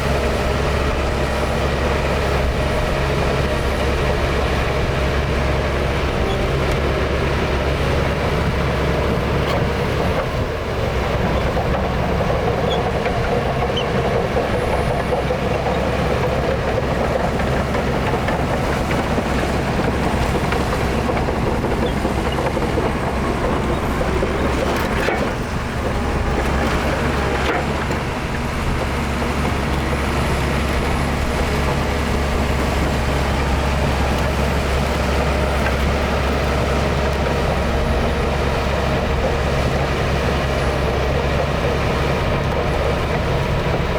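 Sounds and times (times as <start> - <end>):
diesel earthmoving machinery rumbling: 0.0 - 43.9.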